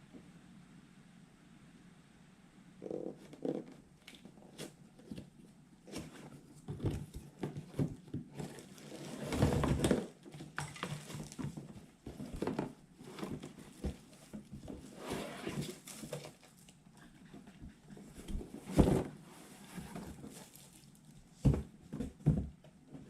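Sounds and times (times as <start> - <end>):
rustling: 2.8 - 22.1.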